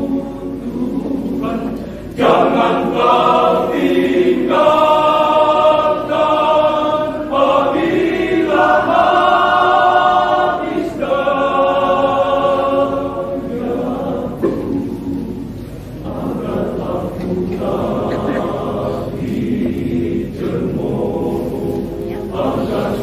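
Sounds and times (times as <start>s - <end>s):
men's choir singing: 0.0s - 23.0s.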